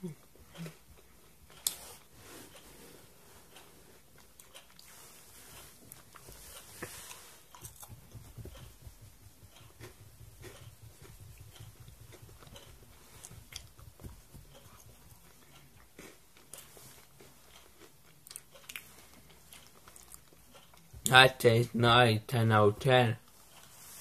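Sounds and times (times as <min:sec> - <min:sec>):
person chewing a snack: 0:00.1 - 0:02.6, 0:03.4 - 0:08.6, 0:09.2 - 0:20.9.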